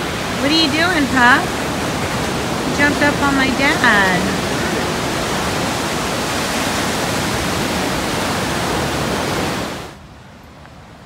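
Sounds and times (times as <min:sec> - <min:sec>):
surf: 0:00.0 - 0:10.0
wind: 0:00.0 - 0:11.0.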